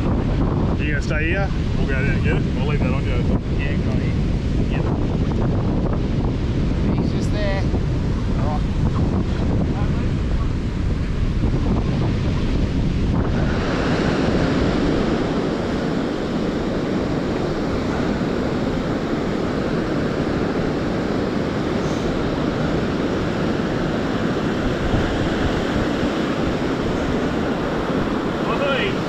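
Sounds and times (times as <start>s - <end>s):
ocean waves breaking on sand: 0.0s - 29.0s.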